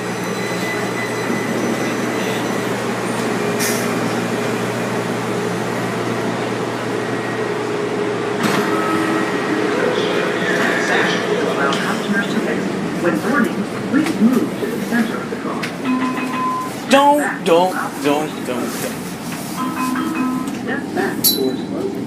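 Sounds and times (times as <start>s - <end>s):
train car running rumble: 0.0s - 22.0s.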